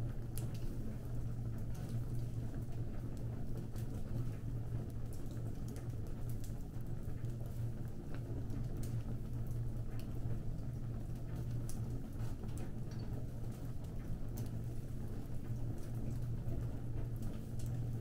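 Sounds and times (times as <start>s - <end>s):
fire crackling and popping: 0.2s - 18.0s.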